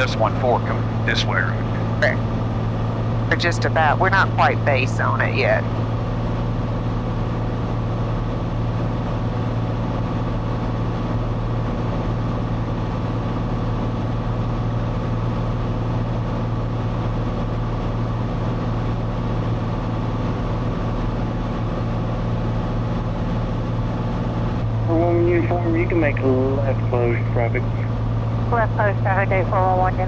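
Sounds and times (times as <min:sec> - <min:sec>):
aircraft engine and propeller drone: 0:00.0 - 0:30.0.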